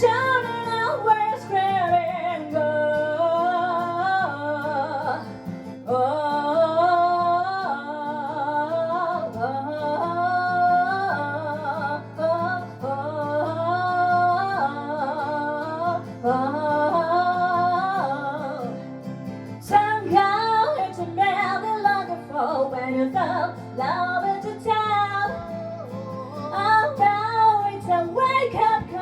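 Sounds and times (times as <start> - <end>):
acoustic guitar: 0.0 - 29.0
woman singing: 0.0 - 29.0.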